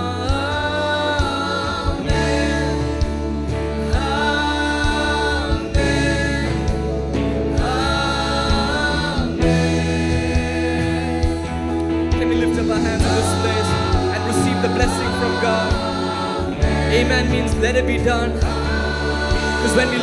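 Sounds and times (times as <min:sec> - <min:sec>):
live praise band: 0:00.0 - 0:20.0
worship singers holding long notes: 0:00.0 - 0:20.0.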